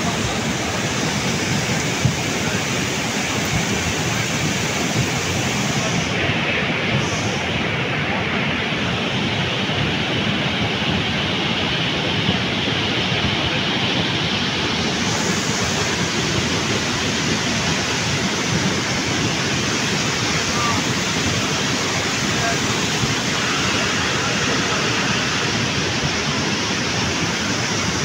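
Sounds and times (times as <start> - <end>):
river torrent rushing: 0.0 - 28.0.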